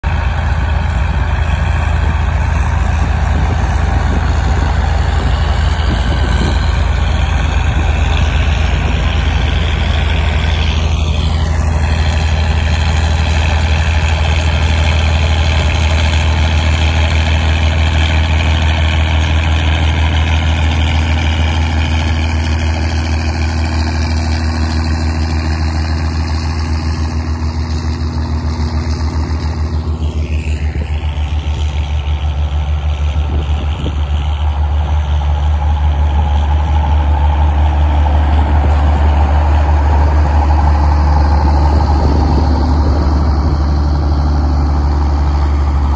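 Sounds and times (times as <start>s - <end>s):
tractor diesel engines droning: 0.0s - 45.9s.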